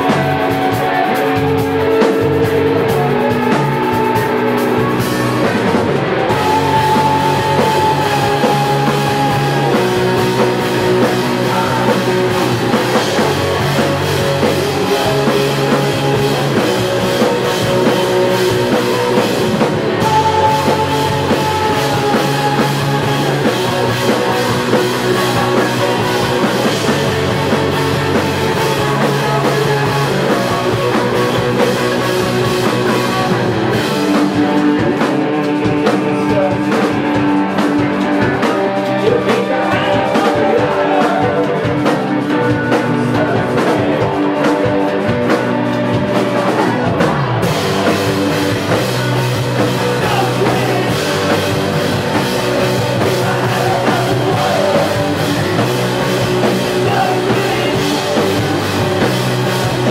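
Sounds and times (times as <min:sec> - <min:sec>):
distorted electric guitars: 0:00.0 - 0:59.9
drum kit with crashing cymbals: 0:00.0 - 0:59.9.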